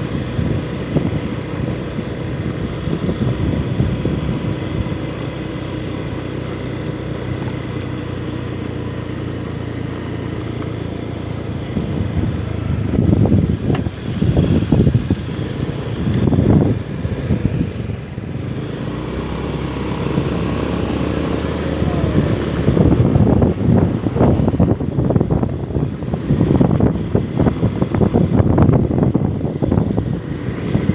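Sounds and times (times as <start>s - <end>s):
motor vehicle running: 0.0s - 30.9s.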